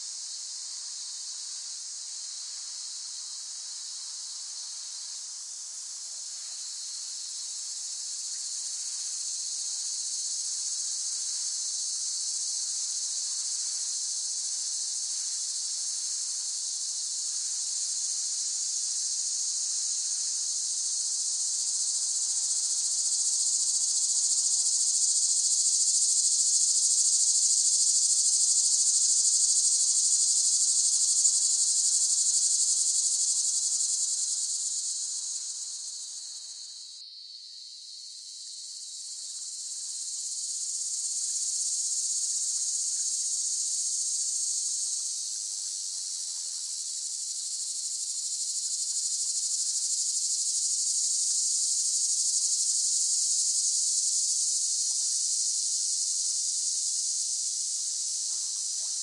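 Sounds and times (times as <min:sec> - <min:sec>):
cicadas buzzing: 0:01.6 - 0:10.8, 0:15.2 - 0:59.0.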